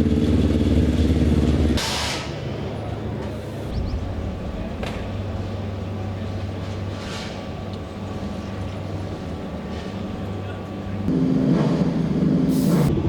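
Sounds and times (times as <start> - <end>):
vehicle engine noise: 0.0 - 13.0
steady low hum: 2.4 - 13.0.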